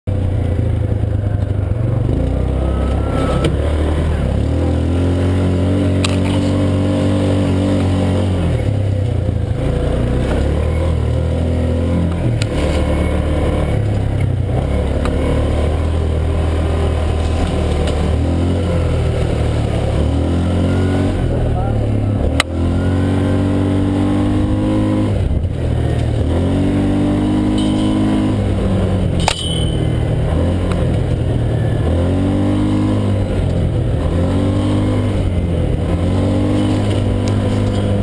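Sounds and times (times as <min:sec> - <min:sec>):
engine running under load: 0:00.1 - 0:38.0.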